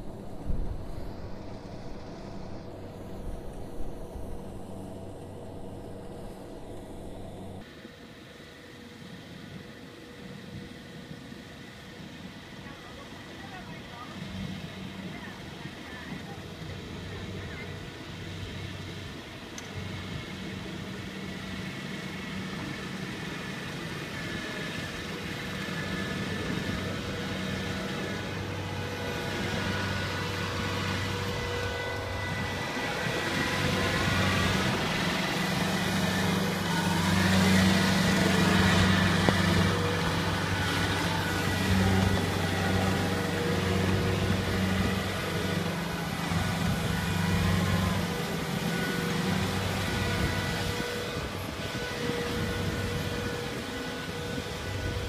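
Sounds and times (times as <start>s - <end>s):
combine harvester diesel engine humming: 0.0s - 55.0s.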